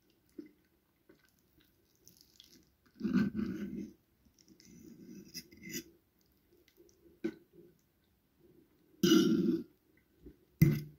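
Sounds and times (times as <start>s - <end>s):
quiet steady rustle: 0.0s - 9.0s
soft chewing: 0.0s - 9.0s.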